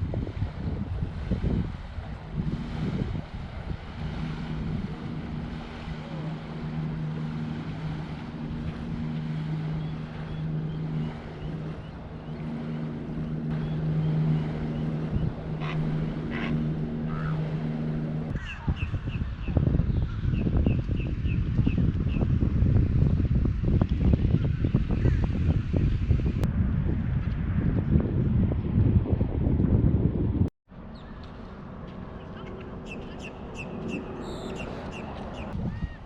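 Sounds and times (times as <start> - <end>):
low motor hum: 0.0 - 36.0
wind buffeting microphone: 0.0 - 36.0.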